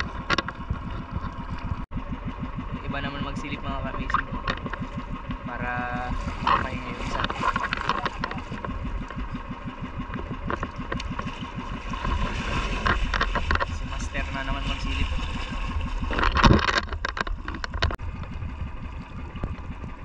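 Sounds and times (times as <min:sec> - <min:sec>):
small boat engine chugging: 0:00.0 - 0:20.0.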